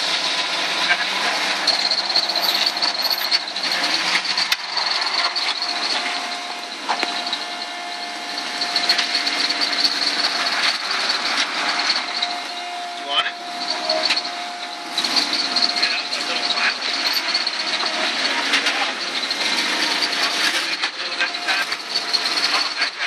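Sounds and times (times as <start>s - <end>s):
buggy engine whining under load: 0.0s - 23.0s.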